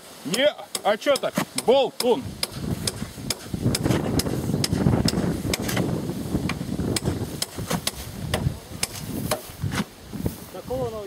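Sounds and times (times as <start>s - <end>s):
dry sticks and brush rustling: 0.0s - 11.0s.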